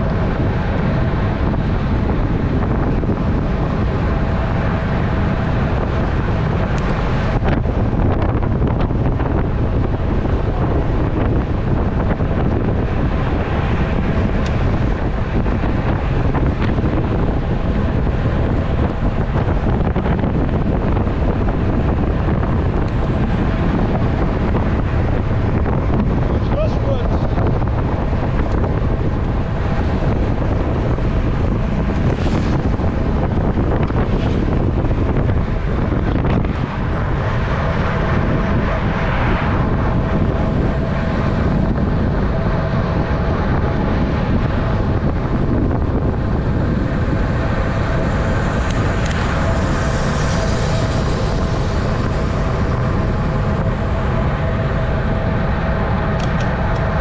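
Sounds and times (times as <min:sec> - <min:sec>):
bike tyre noise: 0:00.0 - 0:57.0
wind buffeting microphone: 0:00.0 - 0:57.0.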